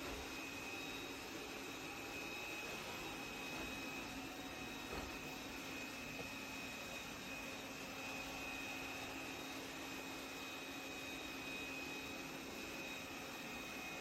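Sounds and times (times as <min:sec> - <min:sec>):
robot vacuum whining: 0:00.0 - 0:14.0.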